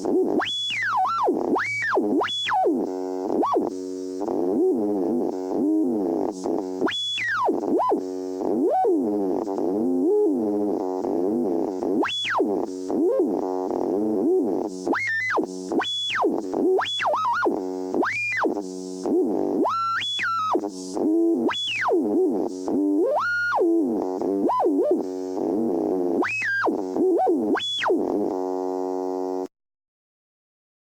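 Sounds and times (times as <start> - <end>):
buzzy electronic drone: 0.0 - 29.5.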